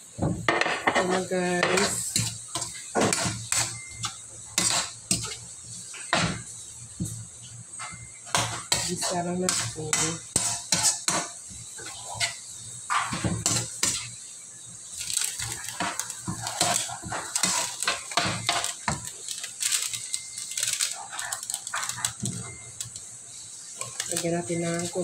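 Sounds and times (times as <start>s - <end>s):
hot oil sizzling: 0.0s - 25.0s
metal spatula scraping a wok: 0.8s - 14.2s, 14.9s - 25.0s.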